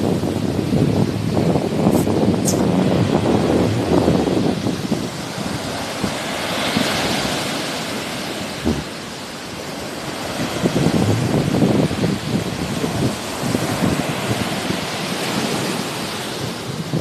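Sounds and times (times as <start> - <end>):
sea waves washing ashore: 0.0 - 17.0
wind gusting on microphone: 0.0 - 17.0.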